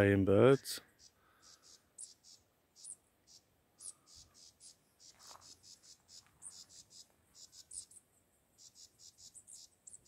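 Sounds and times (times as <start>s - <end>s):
insect chirping: 1.0s - 10.0s.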